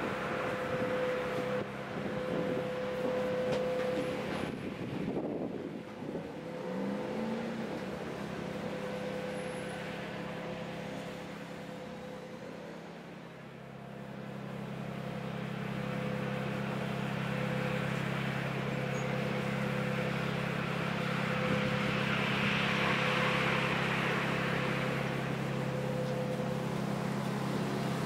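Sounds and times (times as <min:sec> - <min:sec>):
ship machinery humming: 0:00.0 - 0:28.0.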